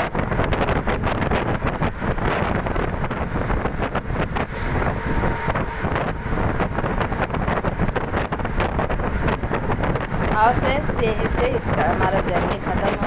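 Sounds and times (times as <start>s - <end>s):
road and engine noise: 0.0s - 13.0s
wind buffeting microphone: 0.0s - 13.0s.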